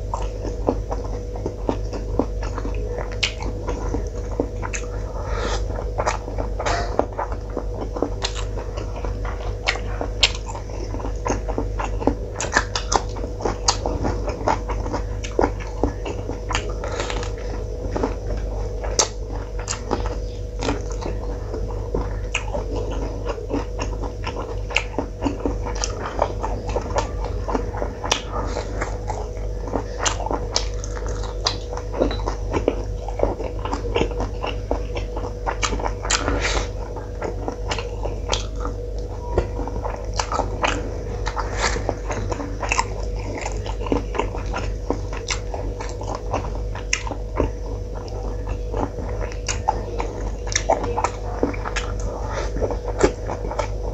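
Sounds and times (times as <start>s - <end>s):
steady hum: 0.0s - 53.9s
wet chewing and lip smacks: 0.1s - 53.8s.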